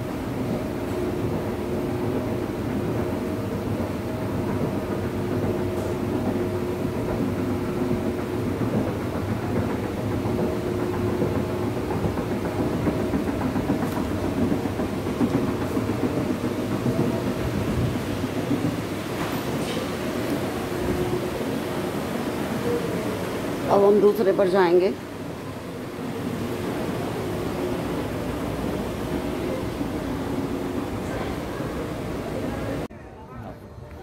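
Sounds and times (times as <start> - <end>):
escalator hum and rumble: 0.0 - 34.0.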